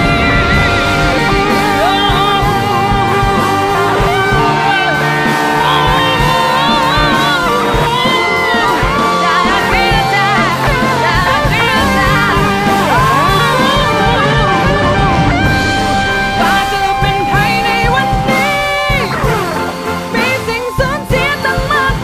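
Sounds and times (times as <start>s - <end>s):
song with singing and guitar: 0.0s - 22.0s.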